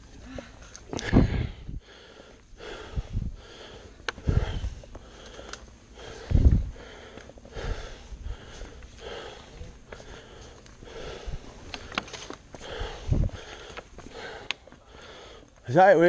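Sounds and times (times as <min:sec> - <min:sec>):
person breathing heavily: 0:00.0 - 0:15.6.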